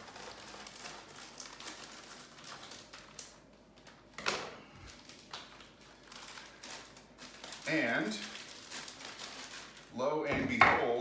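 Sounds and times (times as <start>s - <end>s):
plastic bag crinkling: 0.0s - 4.2s, 4.8s - 10.1s.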